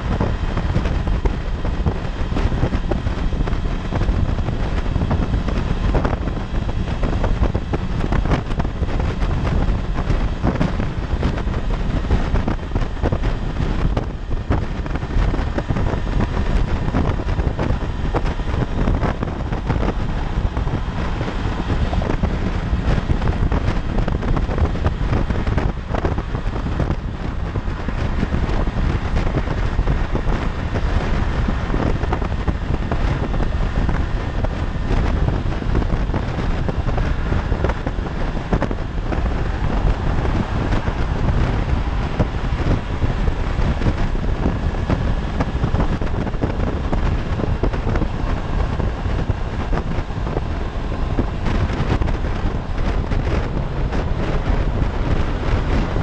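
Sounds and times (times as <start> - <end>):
motorcycle engine: 0.0 - 56.0
wind buffeting microphone: 0.0 - 56.0.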